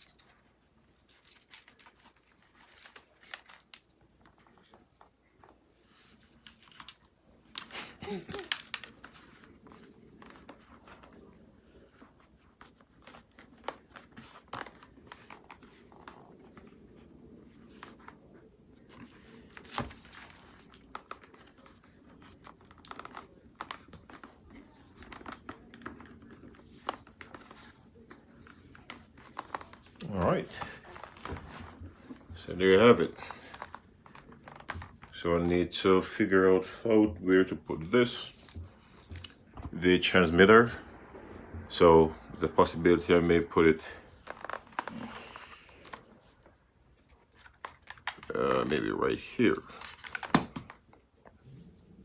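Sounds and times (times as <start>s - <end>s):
crinkling and rubbing of light strip: 0.0s - 52.0s.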